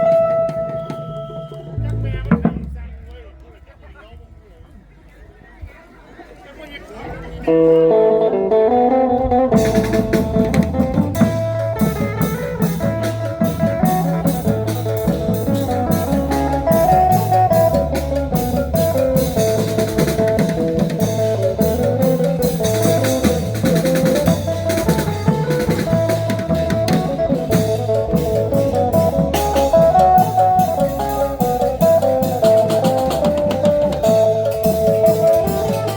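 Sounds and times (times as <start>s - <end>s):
band music with plucked melody: 0.0s - 3.5s, 7.5s - 35.9s.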